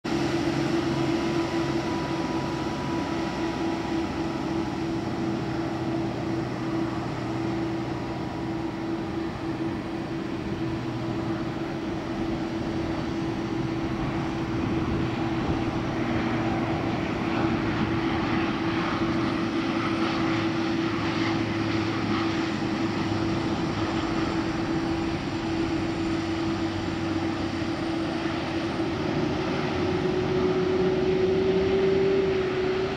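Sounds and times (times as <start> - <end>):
constant hum: 0.0 - 32.9
propeller aircraft drone: 0.0 - 32.9.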